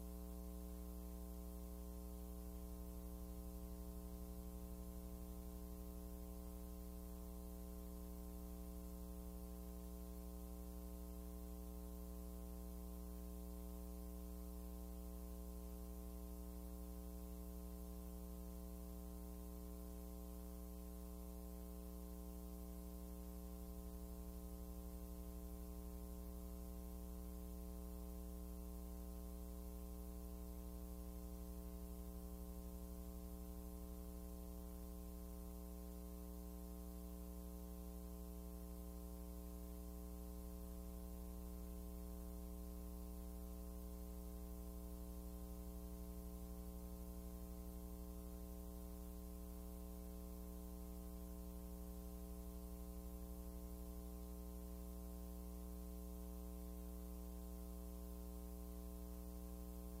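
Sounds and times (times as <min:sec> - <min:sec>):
electrical mains hum: 0:00.0 - 1:00.0.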